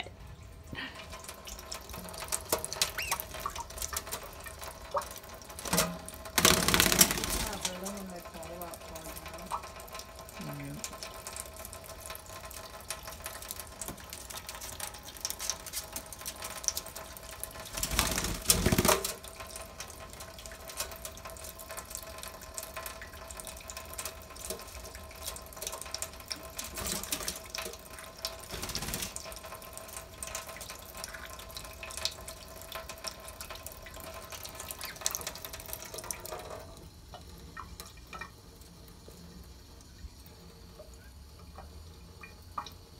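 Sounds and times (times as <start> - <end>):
tap water spattering on metal sink: 1.5 - 36.6.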